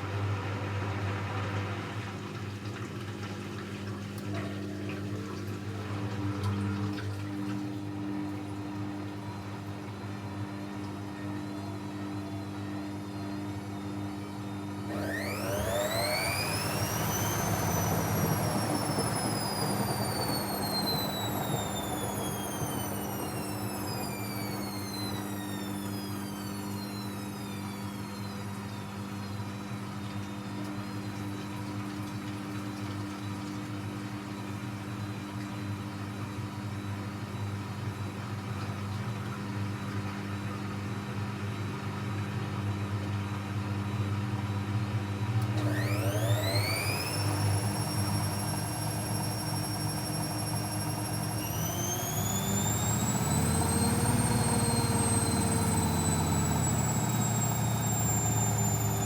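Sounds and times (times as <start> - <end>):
washing machine motor whining: 0.0 - 59.0.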